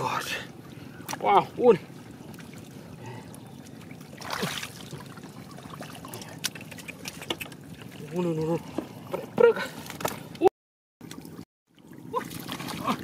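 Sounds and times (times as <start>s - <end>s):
muddy water splashing: 0.0s - 13.0s.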